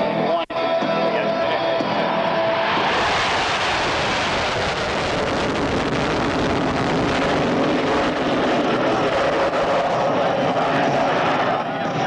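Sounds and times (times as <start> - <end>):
aircraft engine noise: 0.8 - 12.0
wind noise on microphone: 2.2 - 12.0.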